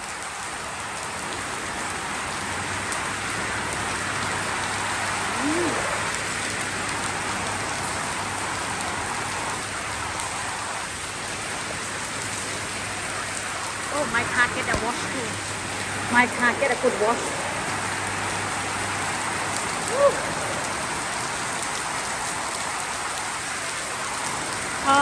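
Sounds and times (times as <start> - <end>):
rain pouring: 0.0 - 25.0.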